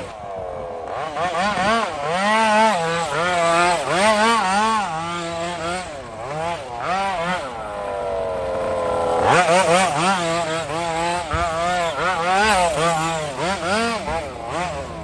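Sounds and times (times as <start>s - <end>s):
small petrol engine revving: 0.0s - 15.0s.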